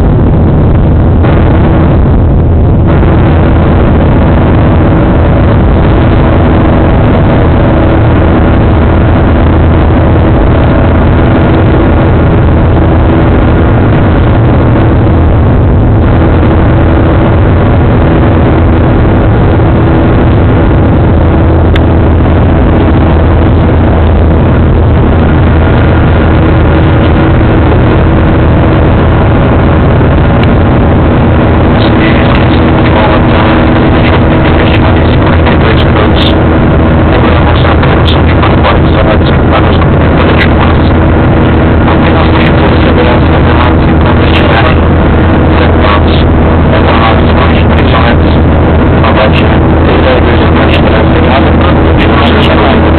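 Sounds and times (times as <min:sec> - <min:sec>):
jet engines roaring in cabin: 0:00.0 - 0:52.9.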